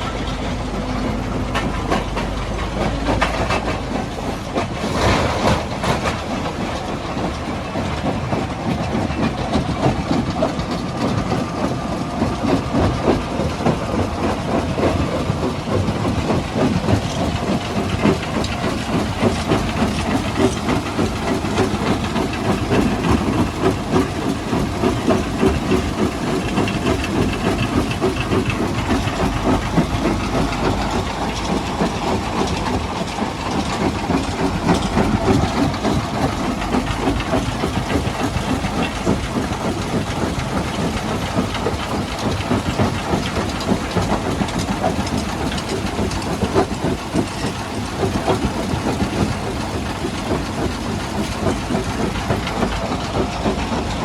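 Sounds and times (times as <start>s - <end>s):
stone-crushing machinery running: 0.0s - 54.0s.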